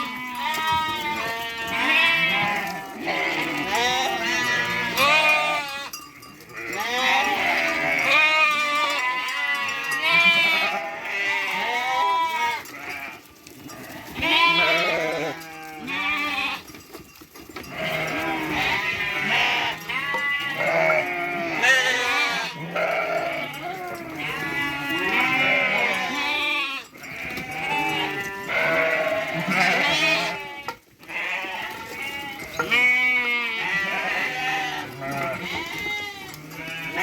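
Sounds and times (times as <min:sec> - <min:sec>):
sheep bleating: 0:00.0 - 0:16.7, 0:17.6 - 0:37.0.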